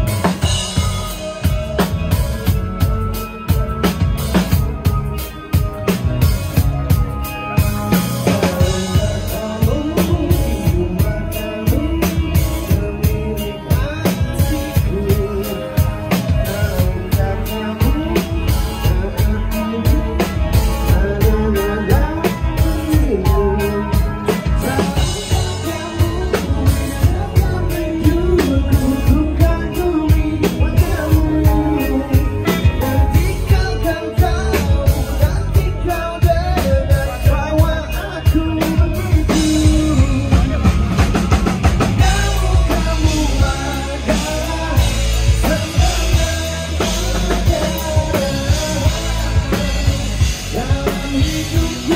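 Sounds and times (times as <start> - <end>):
person singing: 0.0 - 51.9
rock band playing live: 0.0 - 51.9.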